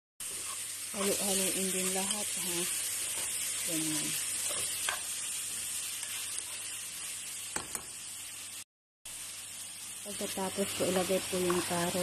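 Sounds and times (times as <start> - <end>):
vegetables sizzling in oil: 0.2 - 12.0.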